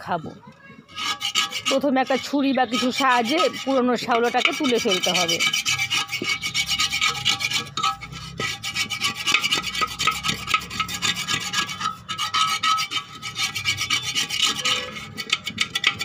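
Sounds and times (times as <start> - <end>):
metal tool scraping clay pot: 0.9 - 16.0.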